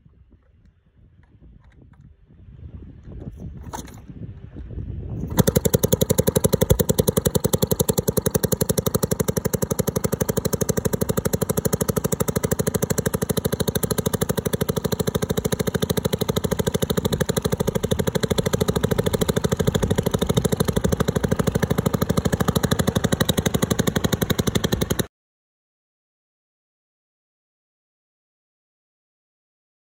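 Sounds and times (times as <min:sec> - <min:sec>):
outboard motor running: 0:00.3 - 0:25.1.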